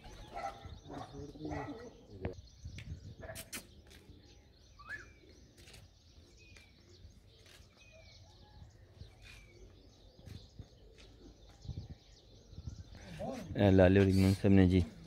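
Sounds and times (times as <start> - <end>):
faint bird chirps: 0.0 - 14.5.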